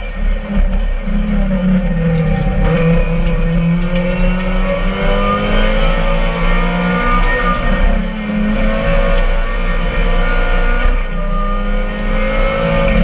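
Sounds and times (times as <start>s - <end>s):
car engine at high revs: 0.0s - 13.0s
road noise: 0.0s - 13.0s.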